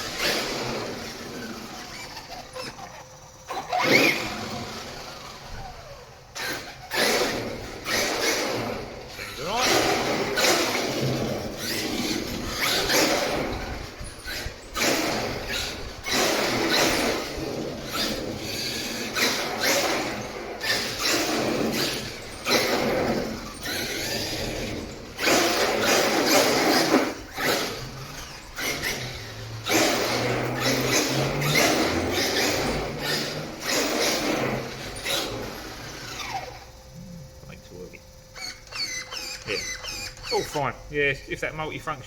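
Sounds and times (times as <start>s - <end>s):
electric motor whirring in bursts: 0.0s - 41.9s.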